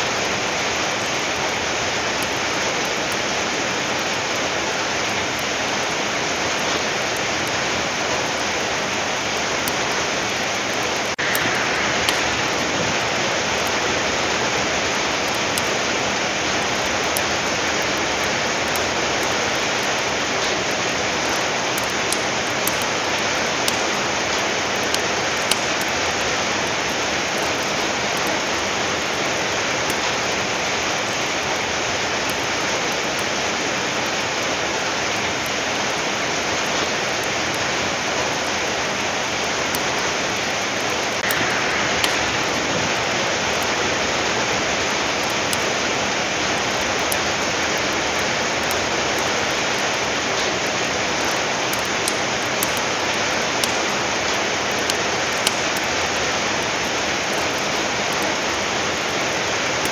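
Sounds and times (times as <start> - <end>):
steady rain falling: 0.0 - 59.9
wood fire crackling: 0.0 - 59.9.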